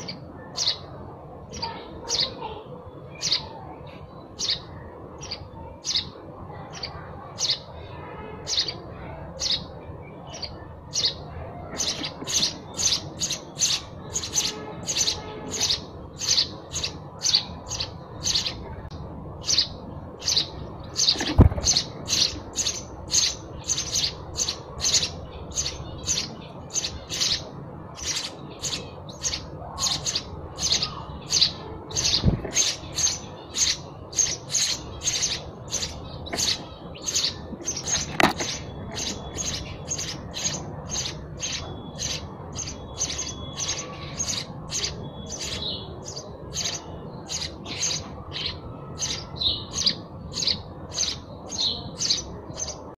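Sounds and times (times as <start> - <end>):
sparrow chirping: 0.0 - 53.0.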